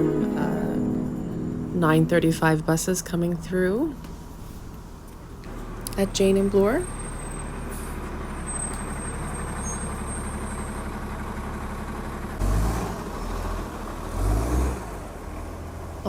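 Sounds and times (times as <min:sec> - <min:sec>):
bus engine running: 0:00.0 - 0:16.0
bus engine surging: 0:00.0 - 0:16.0.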